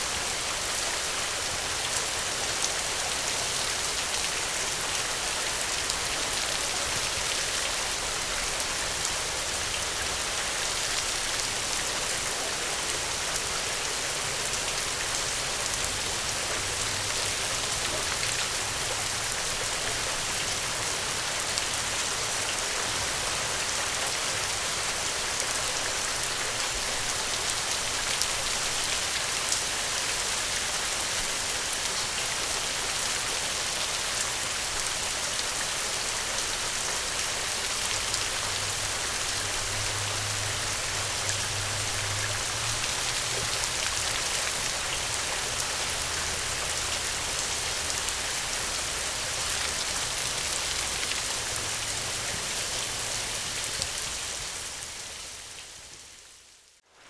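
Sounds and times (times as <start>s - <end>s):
steady gentle rain: 0.0s - 57.0s.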